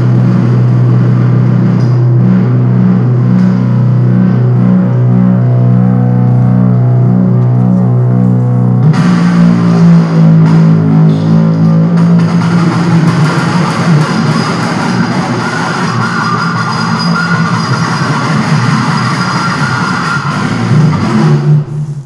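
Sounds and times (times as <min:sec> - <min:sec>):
amplified string drone: 0:00.0 - 0:22.0
buzzing plucked strings: 0:00.0 - 0:22.0.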